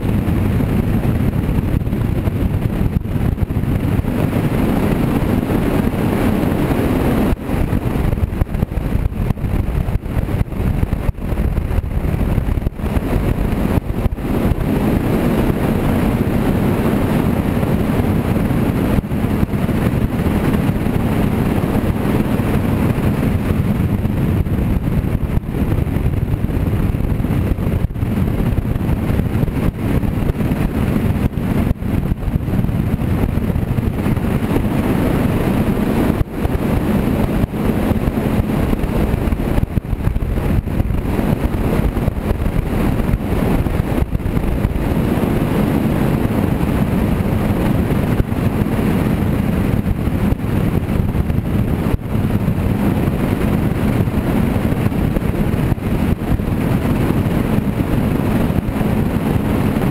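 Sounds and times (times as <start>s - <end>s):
boat engine drone: 0.0s - 59.9s
wind buffeting microphone: 0.0s - 59.9s.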